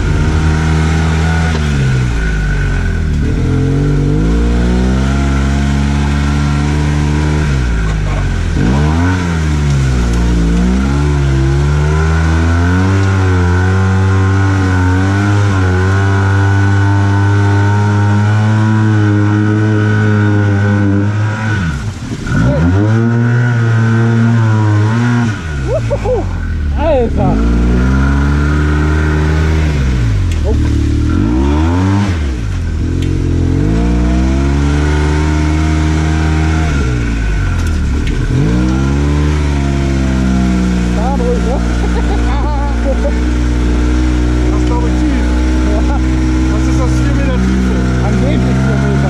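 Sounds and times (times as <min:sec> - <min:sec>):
engine revving: 0:00.0 - 0:49.0.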